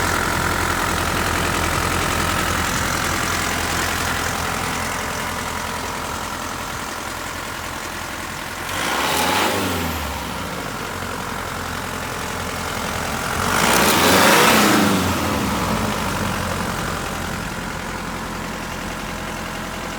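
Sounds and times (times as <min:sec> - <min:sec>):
diesel engine idling and revving: 0:00.0 - 0:19.9.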